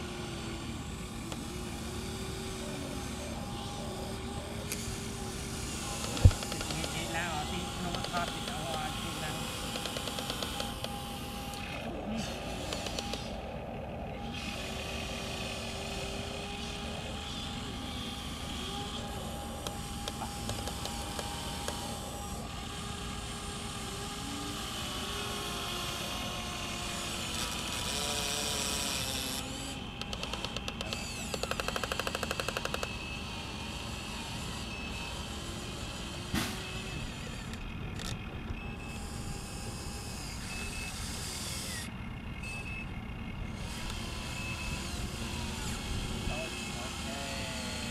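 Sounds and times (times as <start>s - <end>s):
small electric motors whining: 0.0s - 47.9s.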